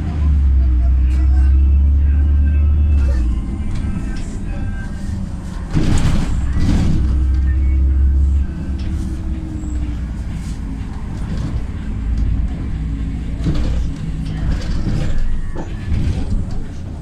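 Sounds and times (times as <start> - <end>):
bus engine running: 0.0 - 17.0
road noise: 0.0 - 17.0
body rattles: 3.1 - 17.0.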